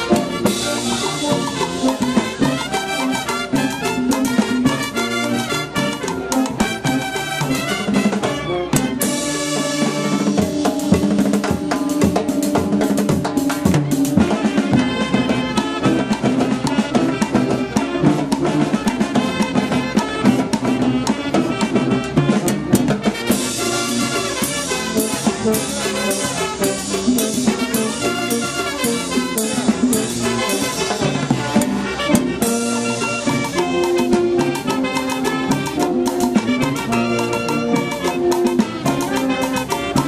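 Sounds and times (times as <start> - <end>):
brass band playing dance music: 0.0 - 40.0.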